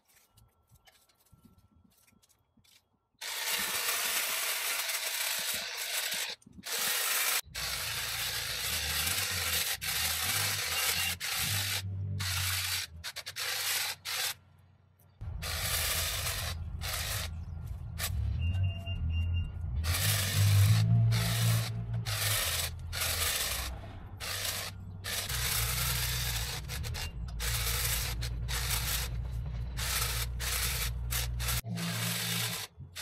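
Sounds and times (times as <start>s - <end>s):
hedge trimmer cutting: 3.2s - 14.4s, 15.2s - 18.2s, 19.8s - 33.0s.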